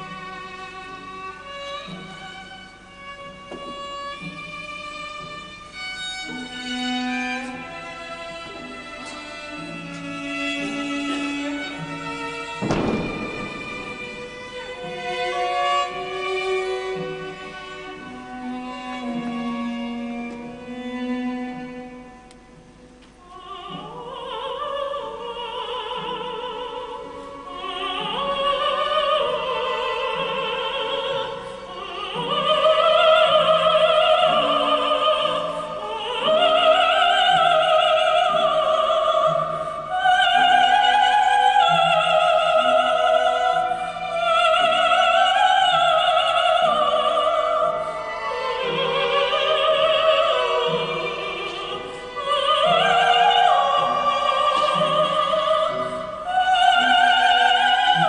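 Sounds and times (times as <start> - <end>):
woman singing opera: 0.0 - 22.3, 23.1 - 58.0
string orchestra: 0.0 - 58.0.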